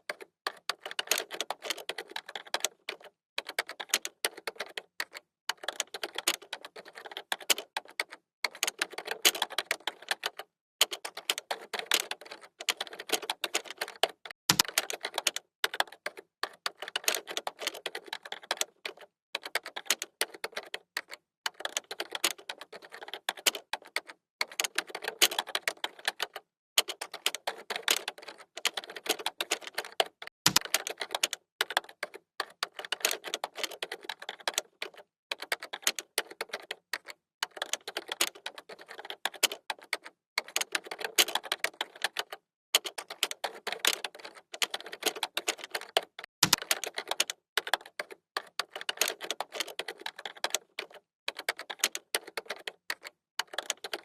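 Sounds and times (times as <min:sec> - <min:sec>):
keyboard typing: 0:00.0 - 0:54.0.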